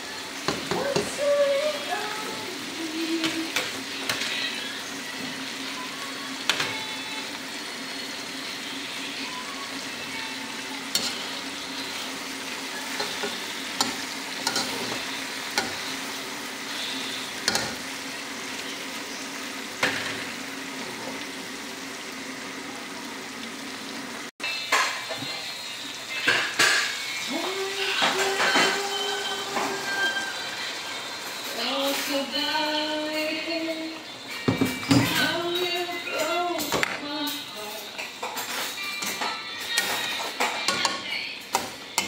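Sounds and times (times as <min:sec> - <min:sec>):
chicken sizzling in a pan: 0:00.0 - 0:42.0.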